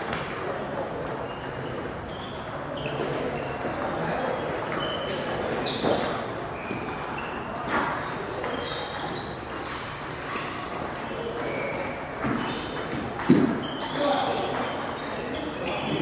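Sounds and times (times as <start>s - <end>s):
faint voices: 0.0s - 16.0s
table tennis balls pinging: 0.0s - 16.0s
shoes squeaking on sports floor: 1.0s - 16.0s.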